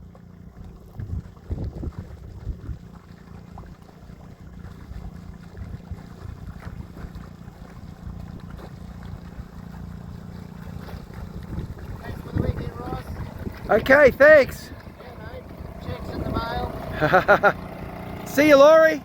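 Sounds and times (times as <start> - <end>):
wind buffeting microphone: 0.0 - 18.3.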